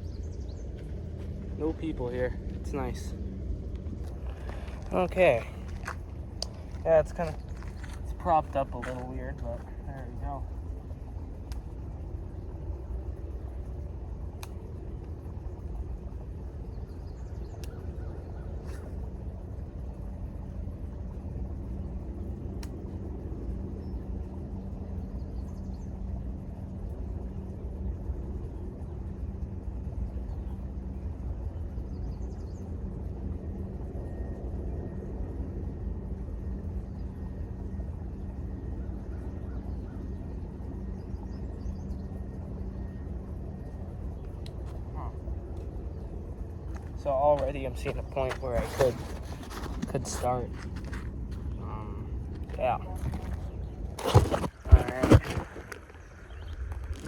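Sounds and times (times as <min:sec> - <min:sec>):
low outdoor rumble: 0:00.0 - 0:57.0
steady low hum: 0:00.0 - 0:57.0.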